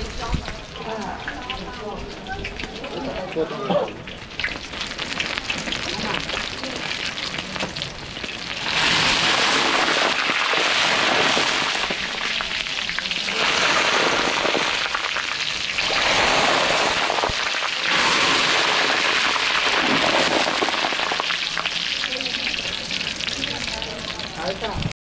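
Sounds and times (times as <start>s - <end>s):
hot oil sizzling in a wok: 0.0s - 24.9s.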